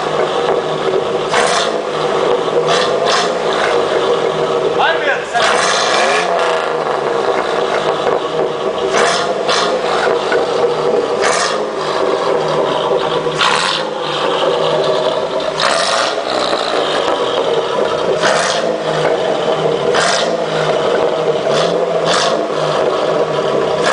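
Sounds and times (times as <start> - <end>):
car engine running at raised revs: 0.0 - 23.9.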